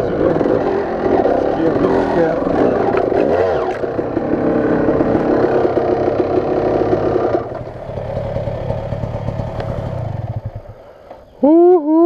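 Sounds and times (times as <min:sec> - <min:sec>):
dirt bike engine running: 0:00.0 - 0:11.3.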